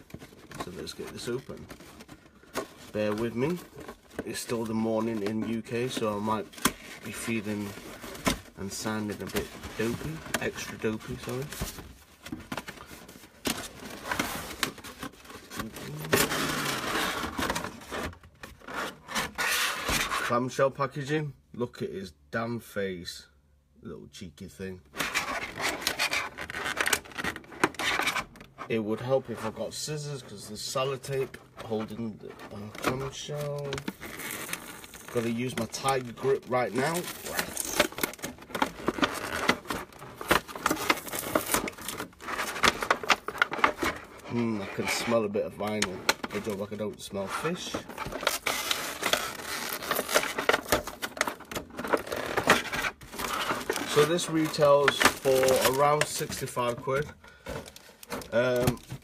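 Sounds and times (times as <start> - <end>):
packaging scraping and rustling: 0.0 - 20.4, 24.9 - 59.0.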